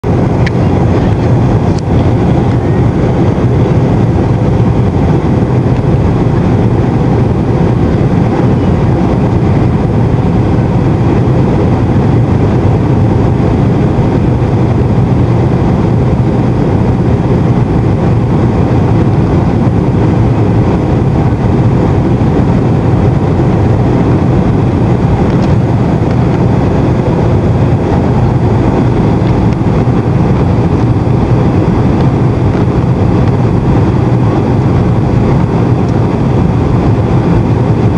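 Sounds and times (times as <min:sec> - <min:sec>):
jet engines droning: 0:00.0 - 0:37.9
rushing air: 0:00.0 - 0:37.9.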